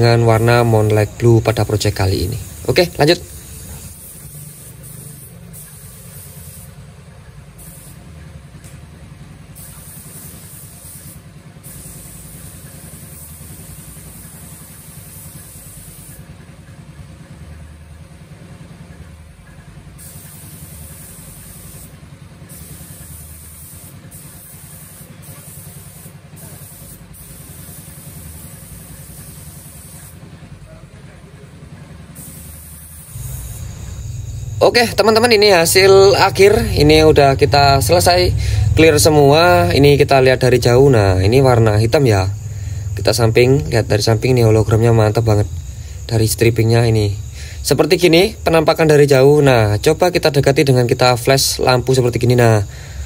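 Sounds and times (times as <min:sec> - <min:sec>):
paint spray gun hissing: 0:00.0 - 0:17.0, 0:18.8 - 0:53.0
low machine hum: 0:00.0 - 0:53.0.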